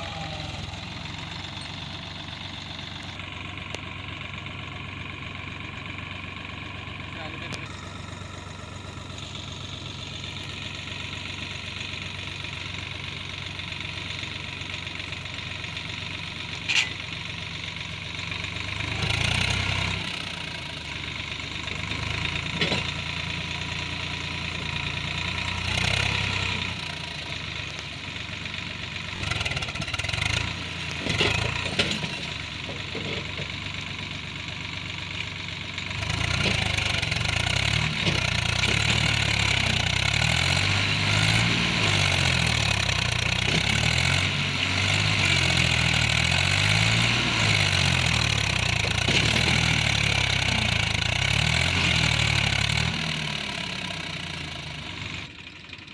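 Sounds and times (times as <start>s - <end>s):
tractor diesel engine surging: 0.0s - 55.9s.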